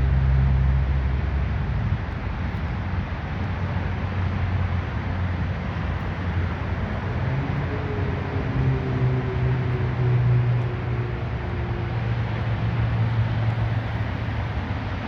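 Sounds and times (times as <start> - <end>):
constant rushing noise: 0.0 - 15.0
engine running: 0.0 - 15.0.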